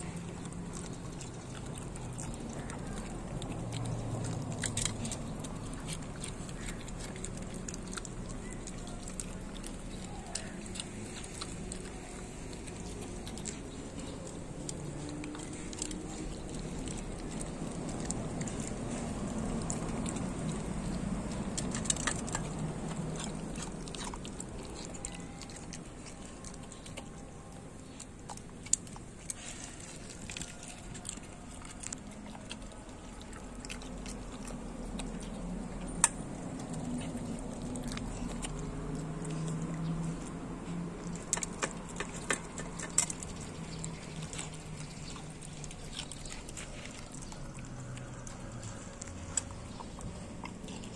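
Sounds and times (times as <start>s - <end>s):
dog chewing in a metal bowl: 0.0s - 50.9s.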